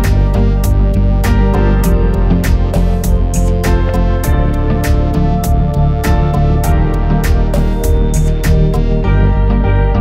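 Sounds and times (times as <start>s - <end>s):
percussive beat: 0.0s - 9.0s
instrumental music with held chords: 0.0s - 10.0s.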